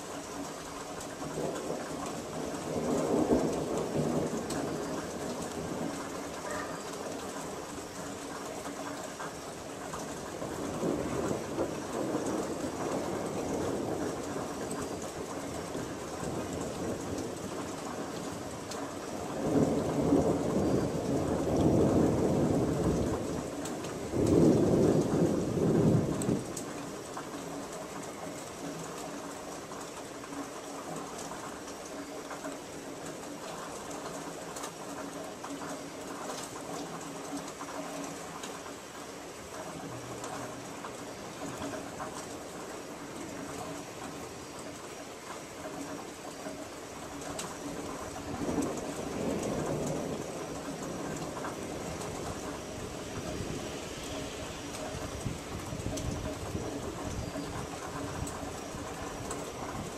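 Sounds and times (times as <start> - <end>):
rain hissing: 0.0 - 59.9
thunder rumbling: 0.9 - 29.4, 39.6 - 59.9.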